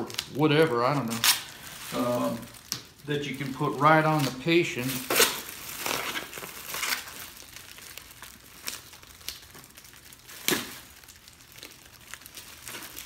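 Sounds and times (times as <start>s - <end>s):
survival blanket crinkling: 0.0s - 13.0s.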